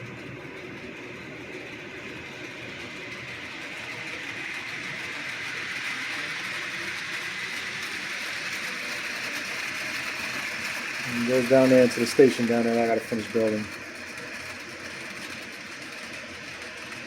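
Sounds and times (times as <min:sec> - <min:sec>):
model train whirring on rails: 0:00.0 - 0:17.0.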